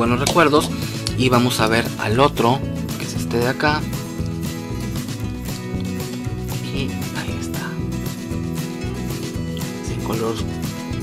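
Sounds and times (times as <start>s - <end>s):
instrumental music with low bass: 0.0s - 11.0s.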